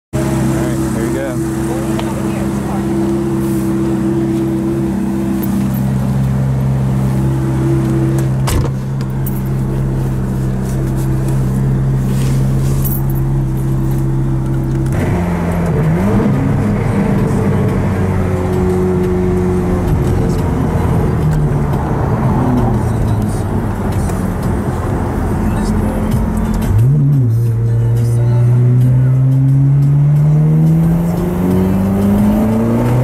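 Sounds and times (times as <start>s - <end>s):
car engine idling and revving: 0.1s - 33.0s.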